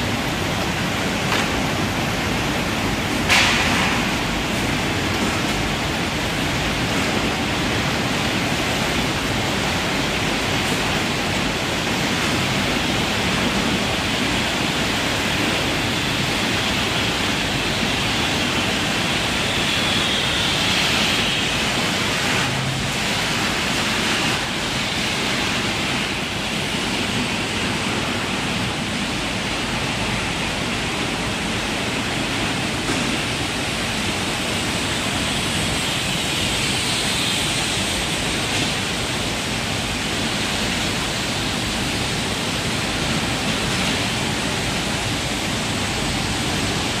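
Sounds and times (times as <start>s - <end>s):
spraying water rushing: 0.0s - 47.0s
tray-washing machine running: 0.0s - 47.0s.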